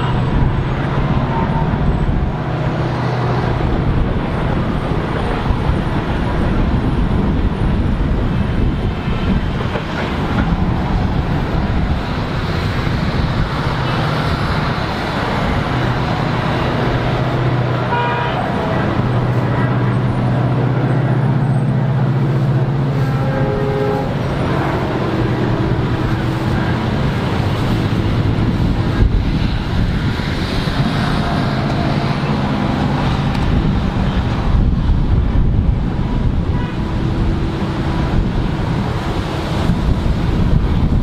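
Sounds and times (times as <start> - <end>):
locomotive engine drone: 0.0 - 41.0
train rumbling past: 0.0 - 41.0.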